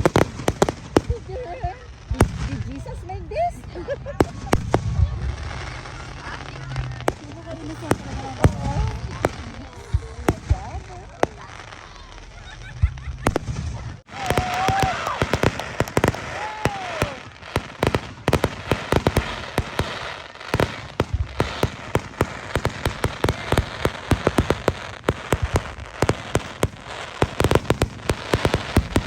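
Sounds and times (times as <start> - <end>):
fireworks crackling and popping: 0.0 - 29.0.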